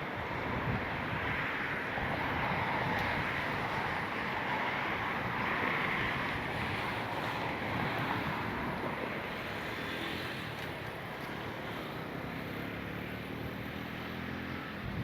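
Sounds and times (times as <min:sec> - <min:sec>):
road traffic: 0:00.0 - 0:15.0
wind: 0:00.0 - 0:15.0.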